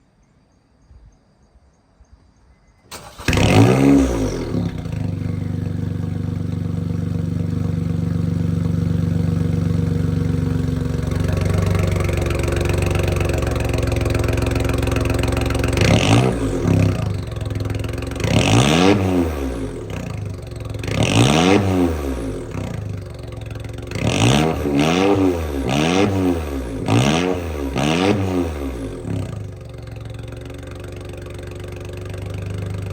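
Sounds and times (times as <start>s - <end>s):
car engine idling and revving: 2.9s - 32.9s.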